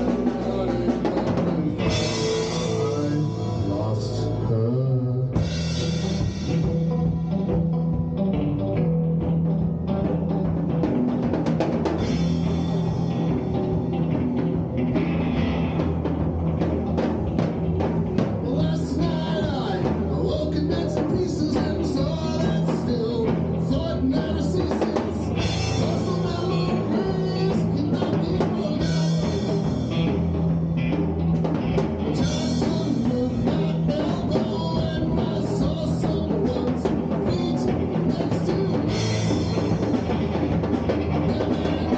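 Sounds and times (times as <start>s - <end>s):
drum kit beat: 0.0s - 4.5s, 5.3s - 41.9s
electric guitars: 0.0s - 41.9s.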